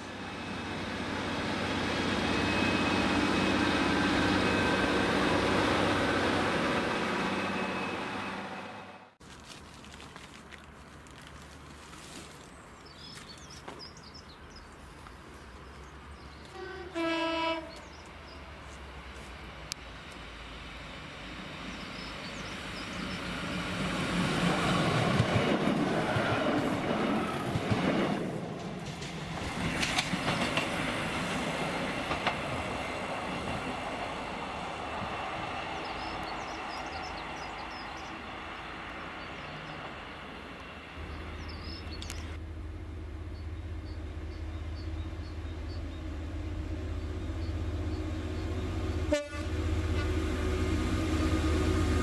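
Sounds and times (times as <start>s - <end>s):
diesel train passing: 0.0s - 9.2s, 12.7s - 52.0s.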